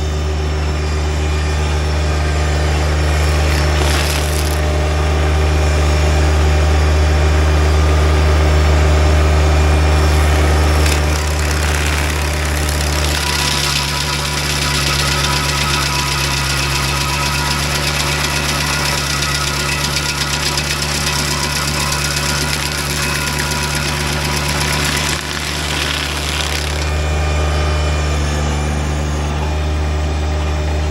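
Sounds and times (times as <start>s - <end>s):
tractor engine drone: 0.0s - 30.9s.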